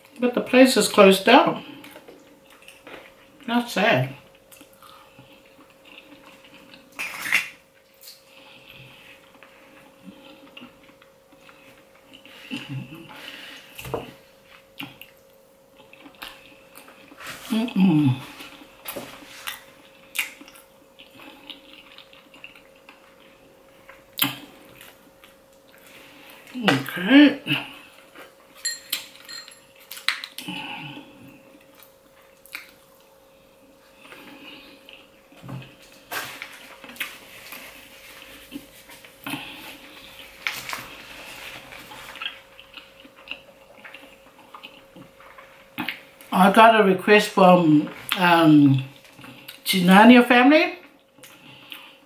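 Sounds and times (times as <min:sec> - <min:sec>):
faint steady hum: 0:00.0 - 0:52.0
person chewing food: 0:01.6 - 0:03.5, 0:04.2 - 0:17.5, 0:18.1 - 0:26.6, 0:27.5 - 0:46.3, 0:48.9 - 0:49.6, 0:50.8 - 0:52.0.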